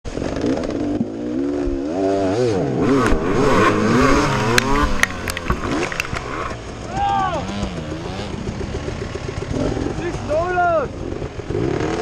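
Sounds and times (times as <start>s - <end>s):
dirt bike engine revving: 0.2s - 10.4s, 11.0s - 12.0s.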